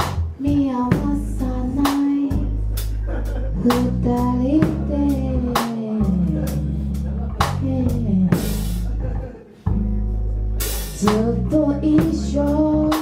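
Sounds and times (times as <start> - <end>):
bass guitar: 0.0 - 13.0
drum kit beat: 0.0 - 13.0
rock band playing: 0.0 - 13.0.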